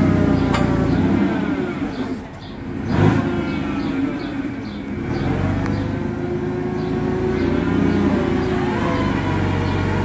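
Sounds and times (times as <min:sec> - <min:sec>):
forklift engine revving: 0:00.0 - 0:10.0.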